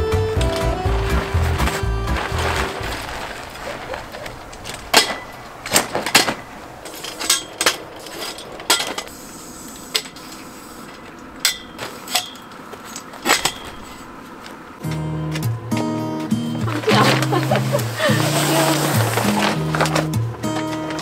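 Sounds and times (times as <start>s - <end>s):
canopy frame clacking: 0.0s - 9.1s, 11.0s - 21.0s.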